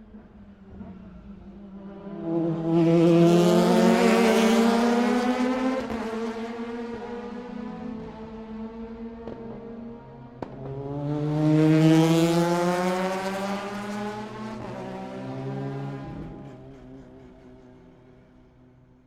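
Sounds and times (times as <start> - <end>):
race car engines passing: 0.0 - 18.8.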